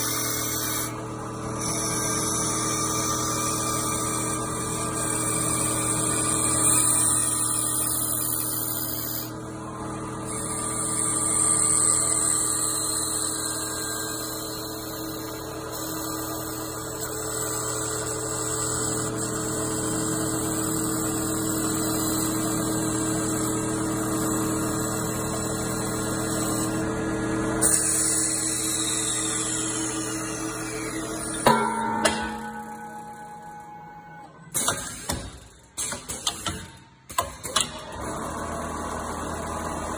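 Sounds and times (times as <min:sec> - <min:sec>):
lathe machine whine: 0:00.0 - 0:34.4.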